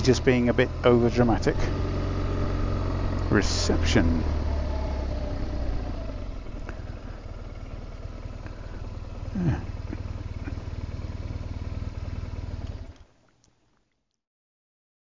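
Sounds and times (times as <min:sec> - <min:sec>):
motorcycle engine at low revs: 0:00.0 - 0:13.2.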